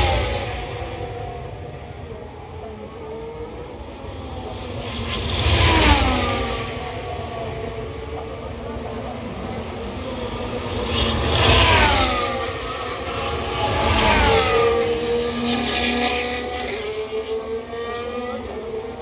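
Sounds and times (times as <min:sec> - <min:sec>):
racing cars passing at speed: 0:00.0 - 0:19.0.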